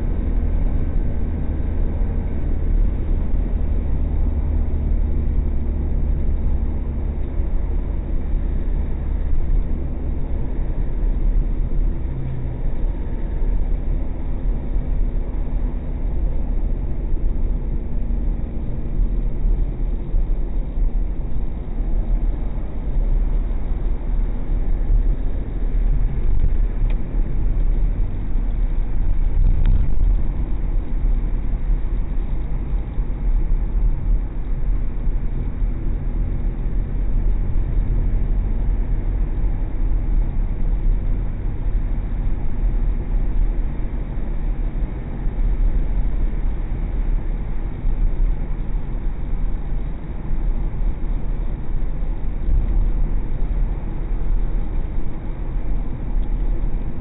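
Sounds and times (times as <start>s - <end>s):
car engine and tyre noise: 0.0s - 57.0s.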